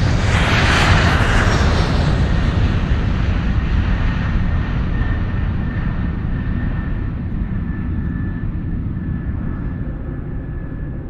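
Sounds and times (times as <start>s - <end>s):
jet cabin engine noise: 0.0s - 11.0s.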